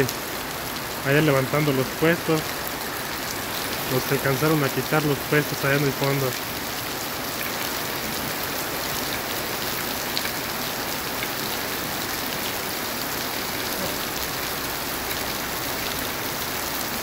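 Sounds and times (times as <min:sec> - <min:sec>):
heavy rain on street and cars: 0:00.0 - 0:17.0.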